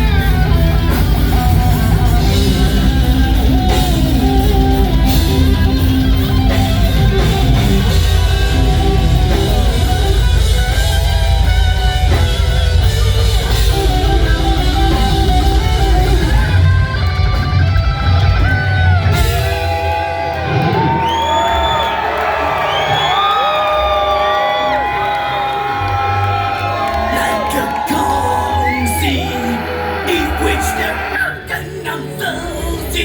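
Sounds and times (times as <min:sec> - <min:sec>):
rock band playing: 0:00.0 - 0:33.0.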